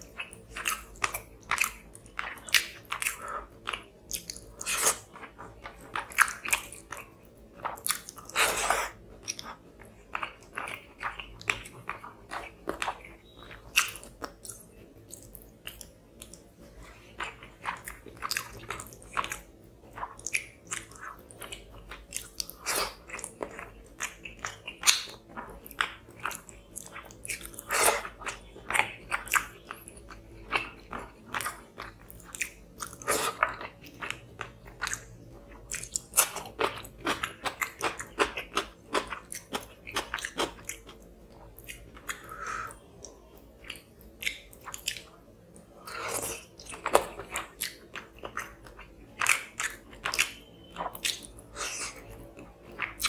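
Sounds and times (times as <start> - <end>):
chewing and mouth smacks: 0.0 - 53.0.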